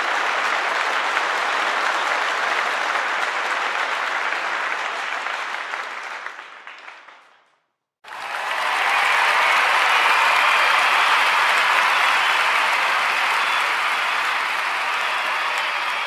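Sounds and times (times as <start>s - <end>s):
audience applause: 0.0s - 7.4s, 8.0s - 16.0s.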